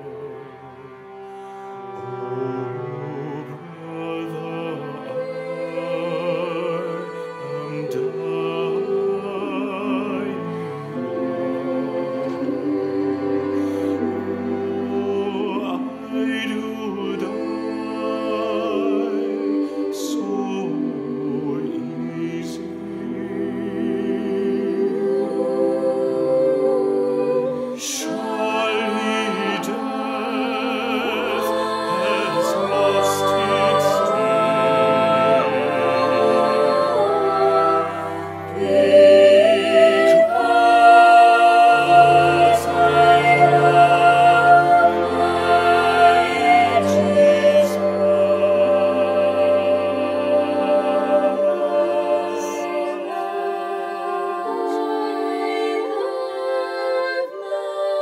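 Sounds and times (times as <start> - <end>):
girls' choir singing: 0.0 - 58.0
viola and cello: 0.0 - 58.0.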